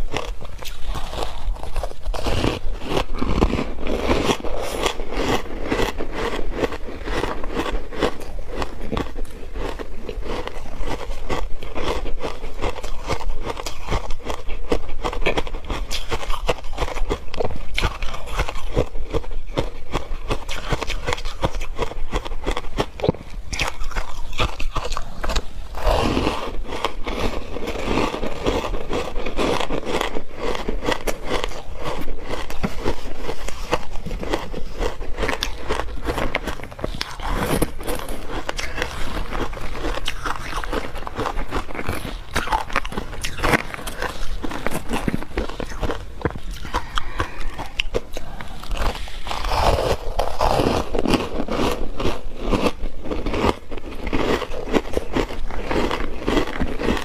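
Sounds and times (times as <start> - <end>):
ice crunching while chewed: 0.0 - 57.0.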